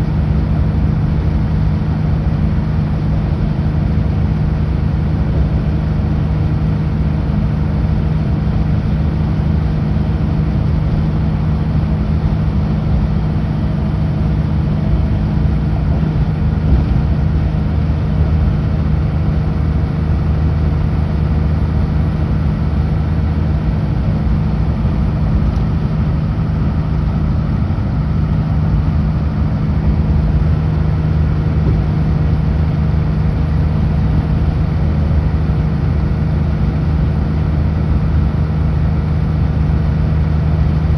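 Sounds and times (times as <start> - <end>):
road and tyre noise: 0.0 - 40.9
truck diesel engine droning: 0.0 - 40.9.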